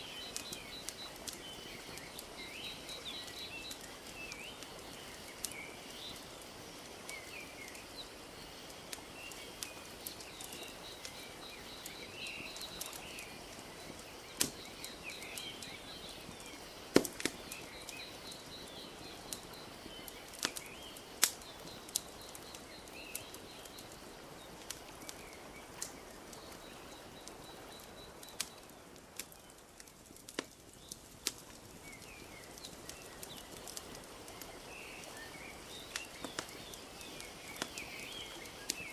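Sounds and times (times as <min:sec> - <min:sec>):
small birds chirping: 0:00.0 - 0:38.9
wood fire crackling: 0:00.0 - 0:38.9.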